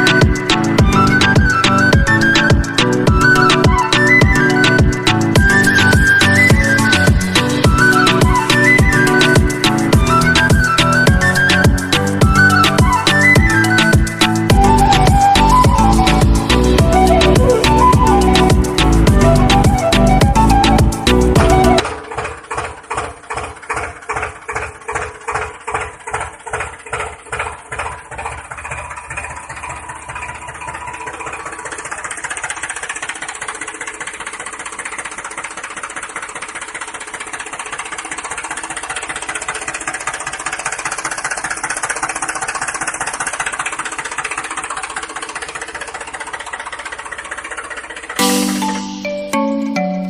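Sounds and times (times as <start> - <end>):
engine-like chugging: 0.0 - 49.0.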